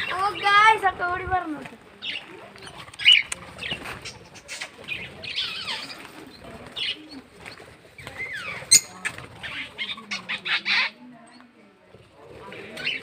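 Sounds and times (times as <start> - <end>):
small birds chirping: 1.9 - 11.8, 12.4 - 13.0.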